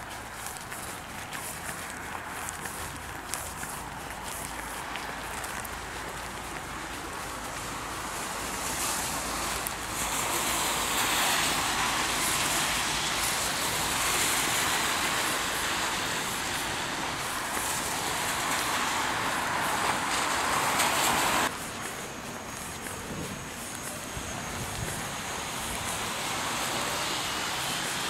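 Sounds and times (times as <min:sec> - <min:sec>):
tyres hissing on wet road: 0:00.0 - 0:28.0.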